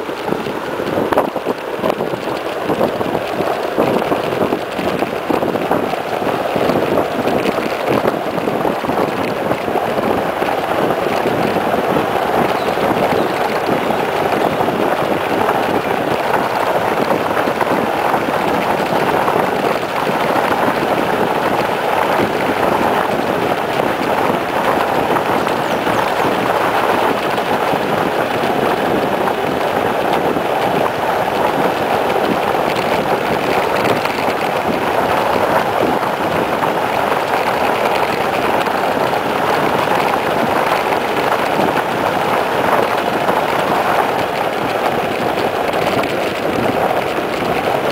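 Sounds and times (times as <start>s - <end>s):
bike tyres rolling on asphalt: 0.0s - 47.9s
wind rushing on microphone: 0.0s - 47.9s.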